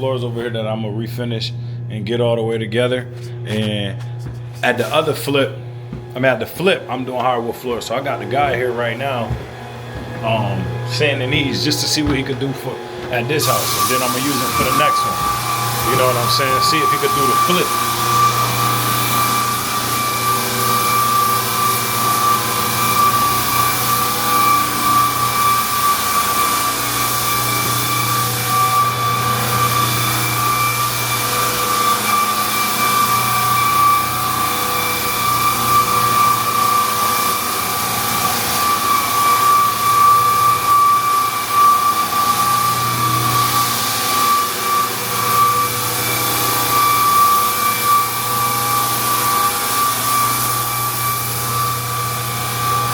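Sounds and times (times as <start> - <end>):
floor sander running: 0.0 - 52.9.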